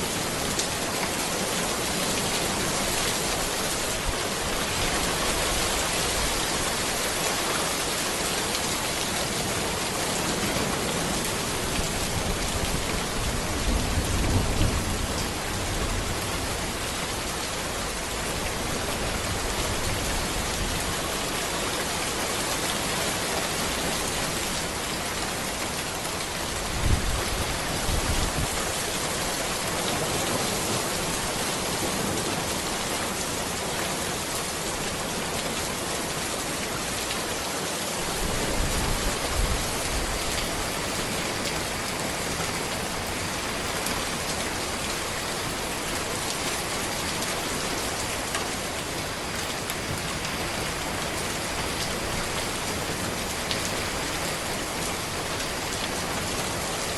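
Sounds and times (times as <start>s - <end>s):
rain falling on road: 0.0s - 56.9s.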